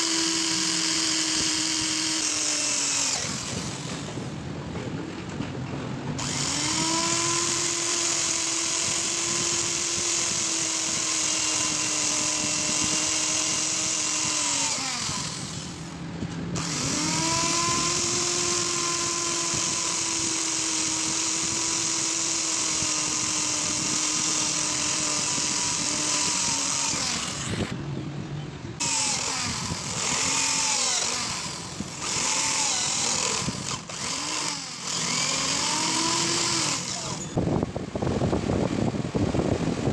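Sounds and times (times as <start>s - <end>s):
power tool motor whining: 0.0s - 4.4s, 6.2s - 27.8s, 28.8s - 38.9s.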